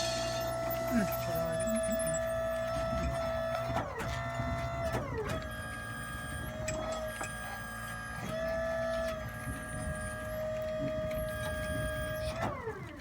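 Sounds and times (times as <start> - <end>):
dishwasher motor whining: 0.0 - 13.0.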